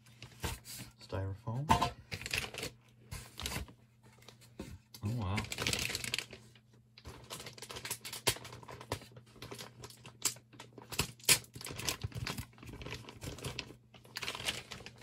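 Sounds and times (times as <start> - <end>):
packing material rustling and scraping: 2.0 - 15.0.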